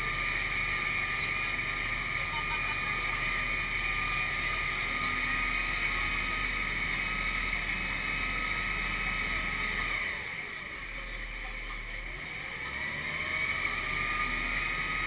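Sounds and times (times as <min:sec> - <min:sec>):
vehicle engine drone: 0:00.0 - 0:15.0.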